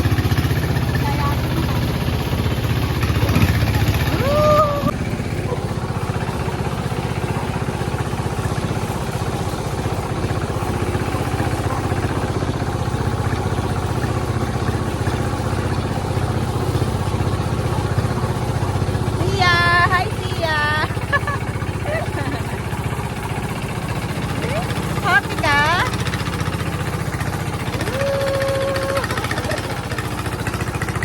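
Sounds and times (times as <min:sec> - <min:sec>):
hand tractor engine running: 0:00.0 - 0:31.0.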